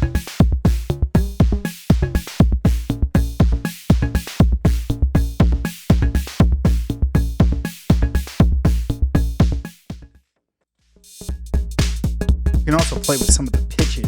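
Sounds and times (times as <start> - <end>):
drum machine beat: 0.0 - 10.1, 11.0 - 14.0.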